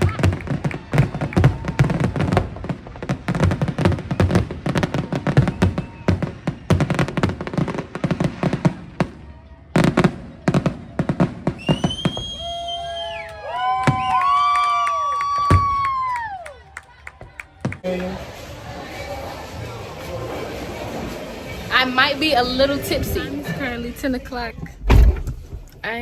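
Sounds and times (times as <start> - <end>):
fireworks bursting and crackling: 0.0 - 16.2, 17.1 - 26.0.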